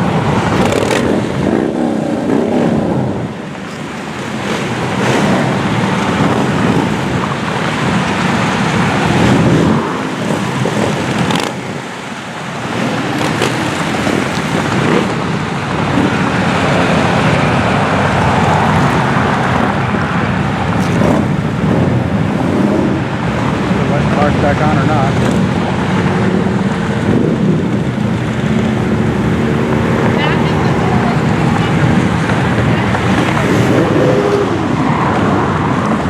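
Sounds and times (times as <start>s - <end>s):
motorcycles and vehicles passing: 0.0s - 36.0s.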